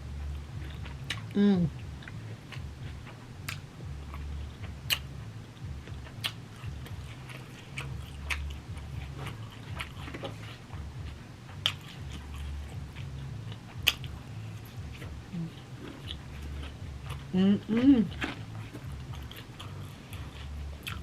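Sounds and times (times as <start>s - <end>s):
close-up chewing: 0.2s - 21.0s.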